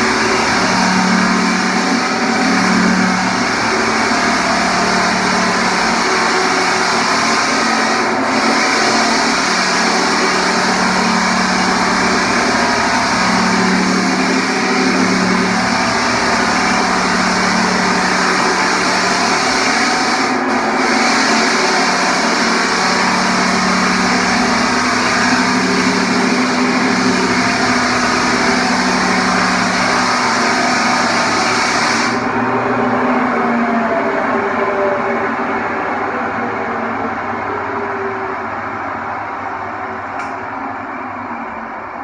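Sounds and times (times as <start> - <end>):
floor sander motor hum: 0.0 - 42.0.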